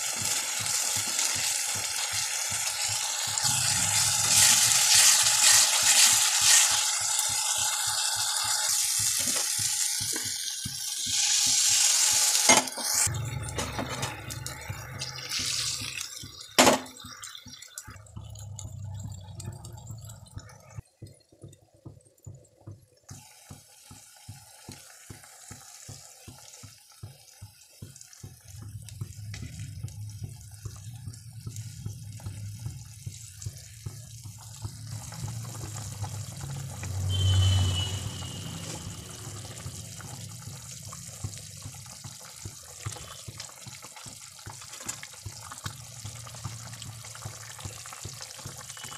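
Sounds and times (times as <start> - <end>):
curry bubbling and sizzling: 0.0 - 48.9.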